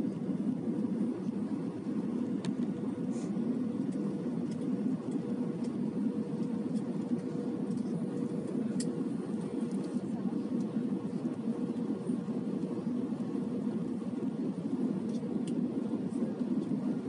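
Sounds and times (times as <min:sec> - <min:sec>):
airplane cabin rumble: 0:00.0 - 0:17.0
faint steady hum: 0:00.0 - 0:17.0.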